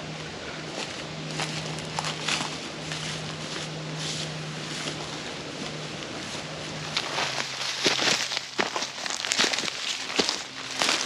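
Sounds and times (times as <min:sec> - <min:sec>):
footsteps crunching on dry leaves: 0:00.0 - 0:11.0
steady low hum: 0:00.0 - 0:11.0
bush brushing against clothing: 0:00.1 - 0:11.0.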